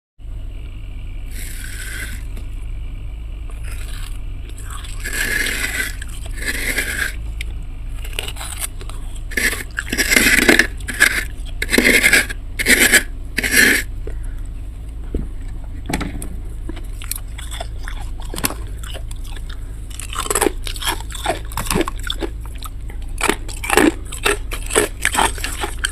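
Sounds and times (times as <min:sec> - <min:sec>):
steady low hum: 0:00.2 - 0:25.9
scraping freezer frost: 0:01.3 - 0:02.6, 0:03.5 - 0:14.4, 0:16.5 - 0:25.9.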